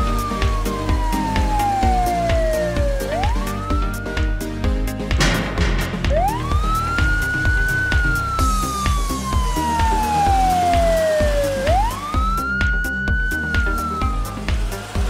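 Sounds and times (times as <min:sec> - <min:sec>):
police siren wailing: 0:00.0 - 0:04.8, 0:06.1 - 0:15.0
background music with beat: 0:00.0 - 0:15.0.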